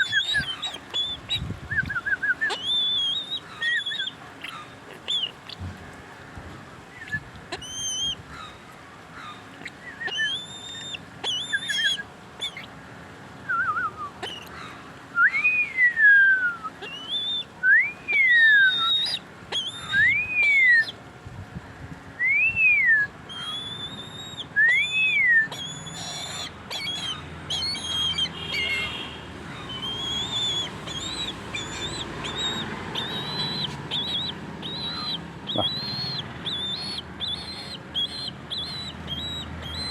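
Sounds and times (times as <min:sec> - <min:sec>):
bird whistling calls: 0:00.0 - 0:05.6, 0:07.0 - 0:08.2, 0:09.6 - 0:12.7, 0:13.4 - 0:14.5, 0:15.1 - 0:21.0, 0:22.2 - 0:29.0, 0:29.6 - 0:39.9.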